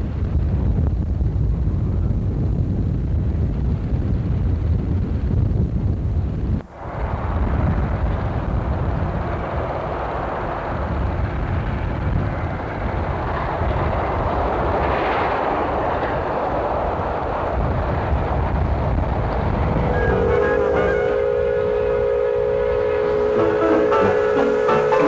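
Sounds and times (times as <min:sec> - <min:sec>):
steam train rumbling and hissing: 0:00.0 - 0:25.0.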